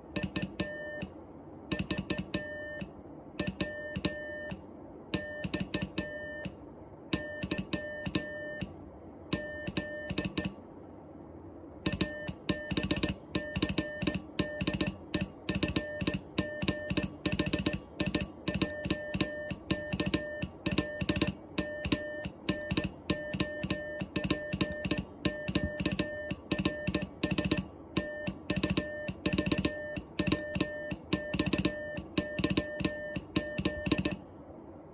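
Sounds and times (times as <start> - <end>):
morse code beeps: 0.1 - 10.6, 11.8 - 34.2.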